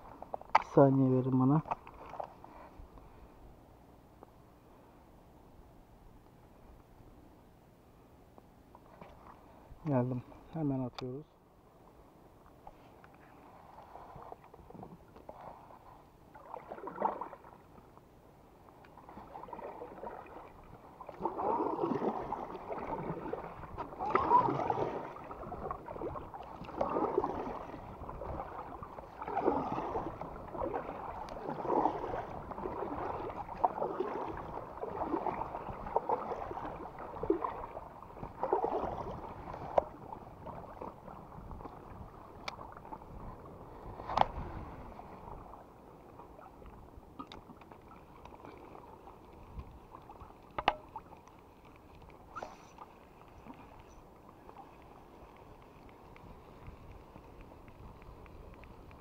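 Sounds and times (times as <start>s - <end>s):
paddle strokes splashing in water: 1.6s - 3.1s, 12.6s - 18.0s, 18.6s - 59.0s.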